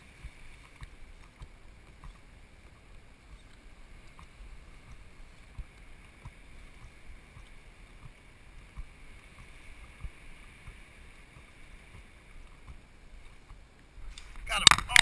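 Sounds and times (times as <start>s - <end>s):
water lapping against hull: 0.0s - 15.0s.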